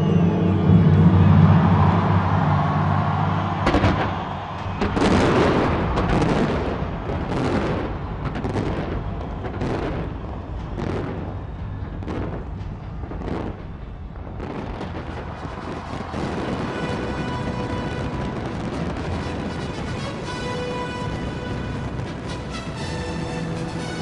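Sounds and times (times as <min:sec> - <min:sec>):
fireworks bangs: 0:01.4 - 0:24.0.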